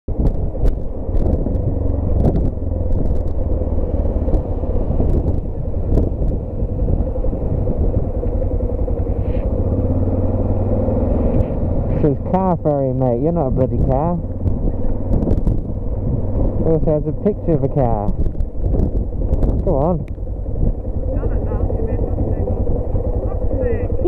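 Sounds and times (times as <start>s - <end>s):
motorcycle engine running: 0.1s - 24.0s.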